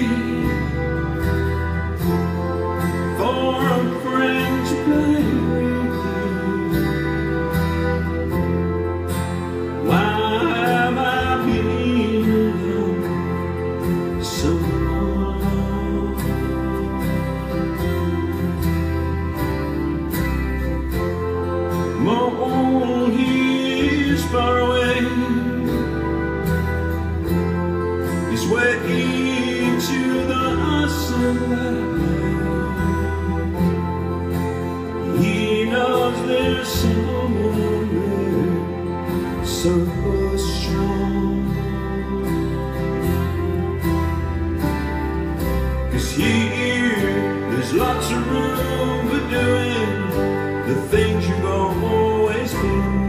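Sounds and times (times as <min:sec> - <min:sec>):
person singing: 0:00.0 - 0:18.6, 0:20.9 - 0:53.0
acoustic guitars: 0:00.0 - 0:53.0
keyboard playing: 0:00.0 - 0:53.0.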